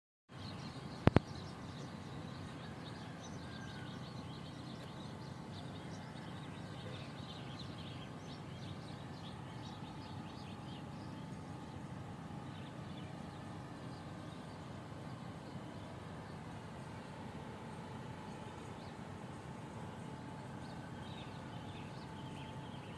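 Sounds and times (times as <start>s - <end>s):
low background rumble: 0.3s - 22.9s
small birds chirping: 0.3s - 22.9s.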